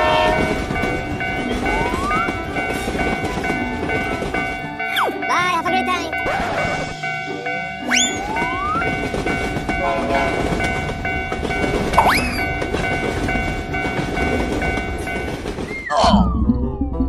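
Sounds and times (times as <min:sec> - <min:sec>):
train rumbling past: 0:00.0 - 0:16.4.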